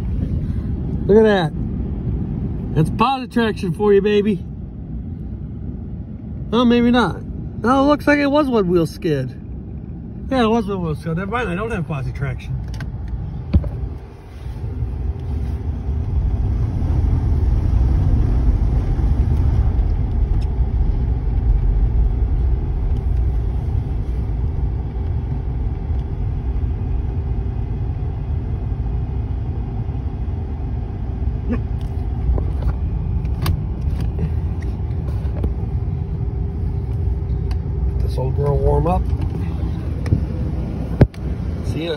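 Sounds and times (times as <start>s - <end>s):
car engine idling: 0.0s - 41.9s
steady hum: 0.0s - 41.9s.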